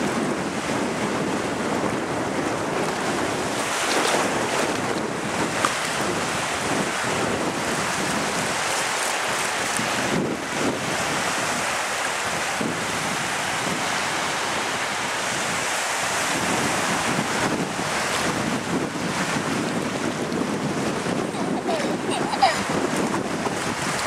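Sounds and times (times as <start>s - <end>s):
waves breaking on beach: 0.0s - 24.0s
wind buffeting microphone: 0.0s - 24.0s.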